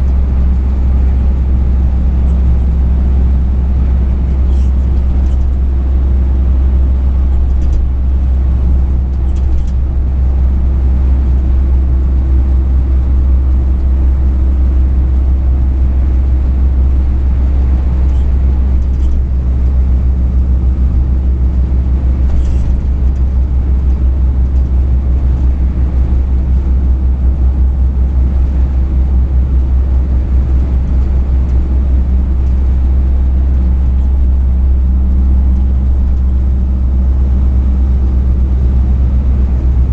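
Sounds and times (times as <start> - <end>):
road rumble: 0.0 - 39.9
truck engine running: 0.0 - 39.9.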